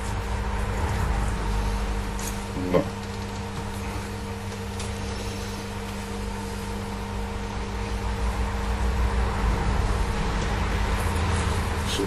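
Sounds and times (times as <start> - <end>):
machine hum with fixed tones: 0.0 - 12.0.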